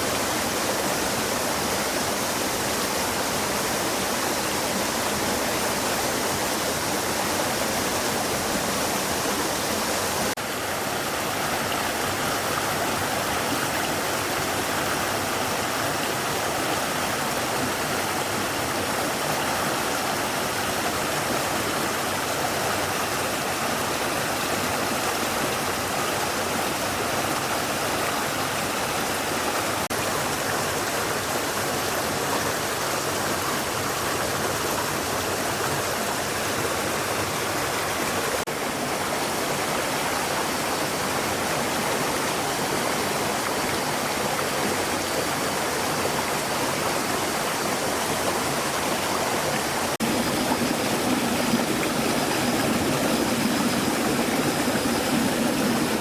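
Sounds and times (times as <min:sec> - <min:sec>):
stream of water flowing: 0:00.0 - 0:56.0.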